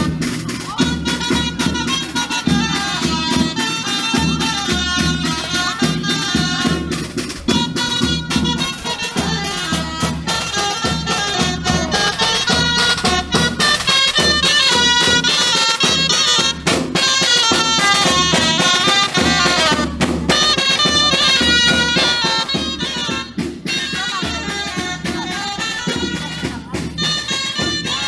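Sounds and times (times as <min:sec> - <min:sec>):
drum beat: 0:00.0 - 0:28.0
reedy wind instrument melody: 0:00.0 - 0:28.0.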